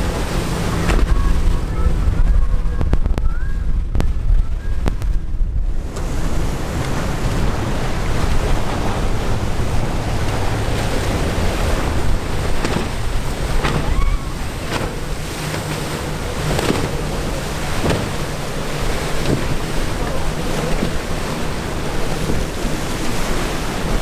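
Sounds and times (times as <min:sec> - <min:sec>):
deep rumble: 0:00.0 - 0:24.0
waves breaking: 0:00.0 - 0:24.0
wind buffeting microphone: 0:00.0 - 0:24.0.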